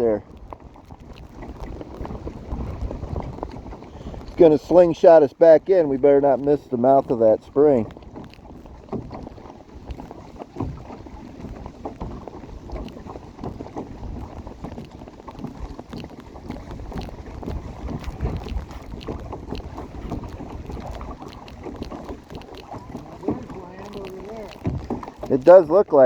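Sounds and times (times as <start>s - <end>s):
knocks and splashes against hull: 0.0s - 26.0s
water: 0.0s - 26.0s
wind buffeting microphone: 0.0s - 26.0s.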